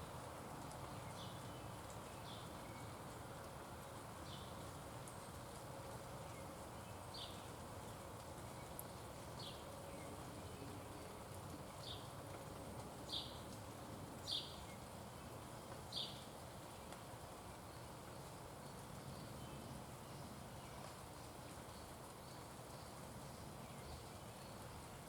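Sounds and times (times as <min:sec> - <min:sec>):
outdoor background hum: 0:00.0 - 0:25.0.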